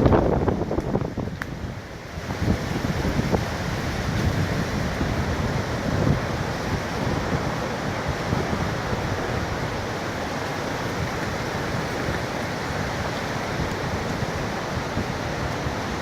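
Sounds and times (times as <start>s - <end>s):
wind buffeting microphone: 0.0s - 16.0s
surf breaking: 2.9s - 16.0s.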